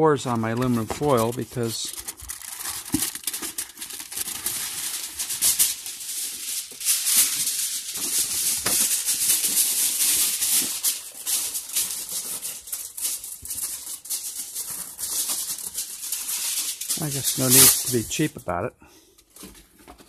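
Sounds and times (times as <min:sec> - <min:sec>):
aluminum foil crinkling: 0:00.3 - 0:20.0.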